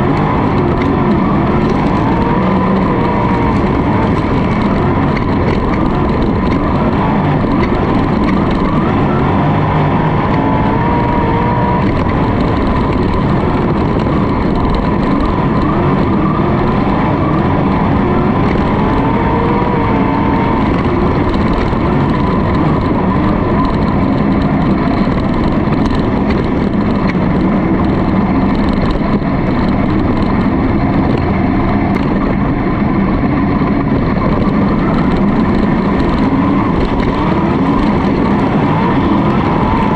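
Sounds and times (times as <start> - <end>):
racing car engines: 0.0 - 39.9
steady rush of noise: 0.0 - 39.9.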